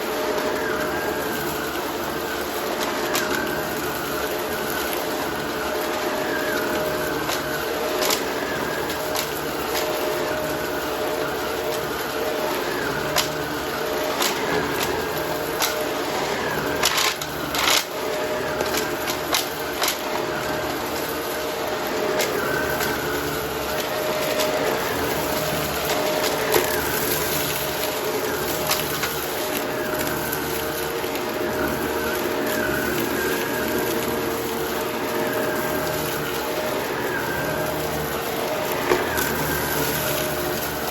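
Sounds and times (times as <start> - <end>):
debris clicking through vacuum: 0.0 - 40.9
vacuum cleaner motor running: 0.0 - 40.9.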